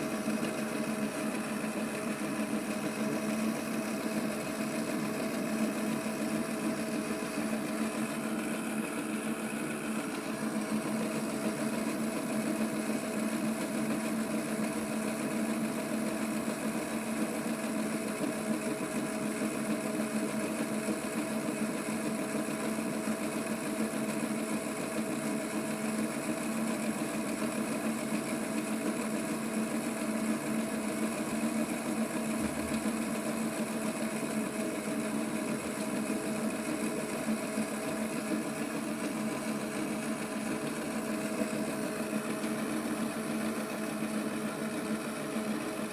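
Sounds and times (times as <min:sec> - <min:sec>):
toy washing machine motor humming: 0:00.0 - 0:45.9.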